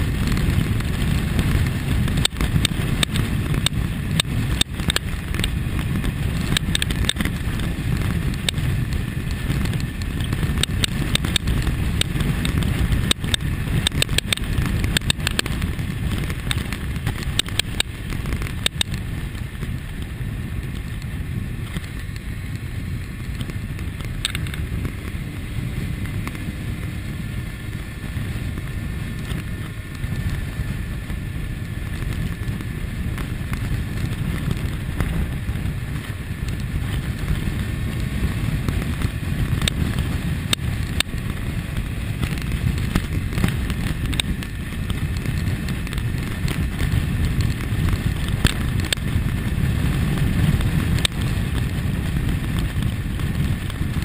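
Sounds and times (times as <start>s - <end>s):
crackles: 0.0s - 54.0s
motorcycle engine cruising: 0.0s - 54.0s
wind rushing over microphone: 0.0s - 54.0s.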